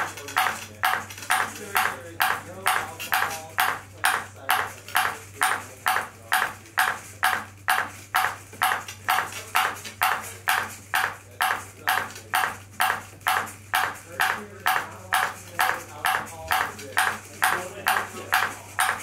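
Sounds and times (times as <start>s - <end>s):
ping pong ball bouncing on plastic: 0.0s - 19.0s.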